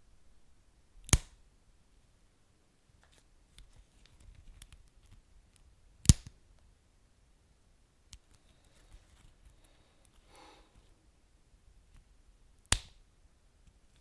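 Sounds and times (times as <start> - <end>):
soft hiss: 0.0 - 14.0.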